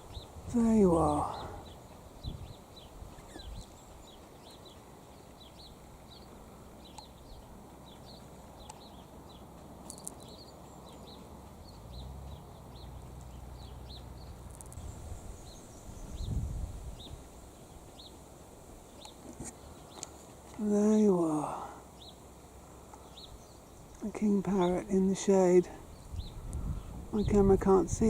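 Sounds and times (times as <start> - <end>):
bird chirping: 0.0 - 27.8.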